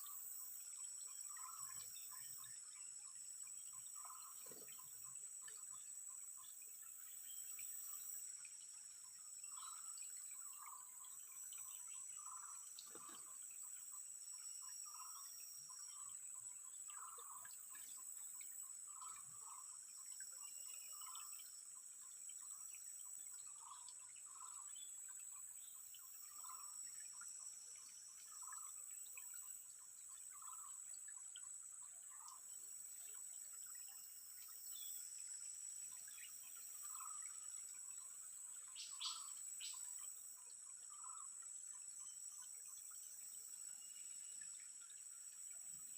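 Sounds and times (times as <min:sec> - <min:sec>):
insects droning: 0:00.0 - 0:45.9
trickle of water: 0:00.0 - 0:45.9.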